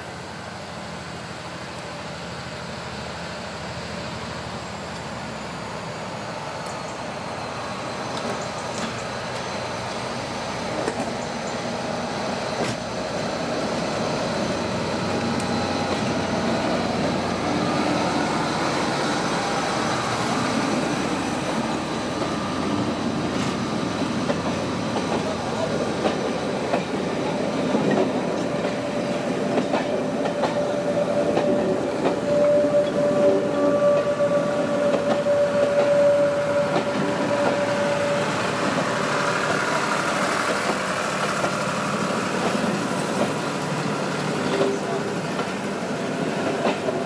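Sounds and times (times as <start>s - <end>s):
diesel locomotive passing: 0.0s - 47.0s.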